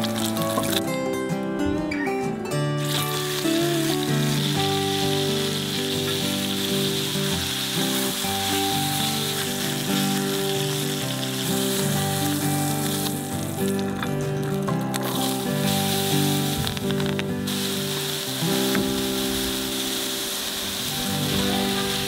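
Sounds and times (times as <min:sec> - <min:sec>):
background music: 0:00.0 - 0:22.0
meat sizzling in a pan: 0:02.8 - 0:13.8, 0:14.7 - 0:22.0.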